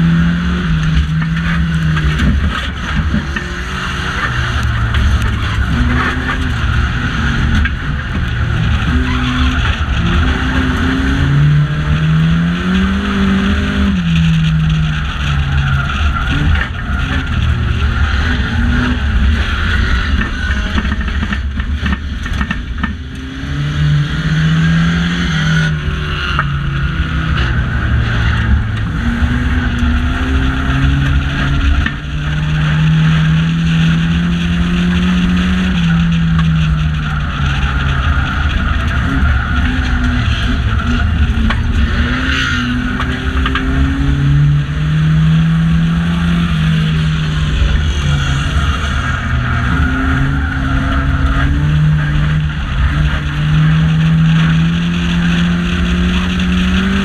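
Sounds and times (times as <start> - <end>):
car engine revving: 0.0 - 57.0
road noise: 0.0 - 57.0.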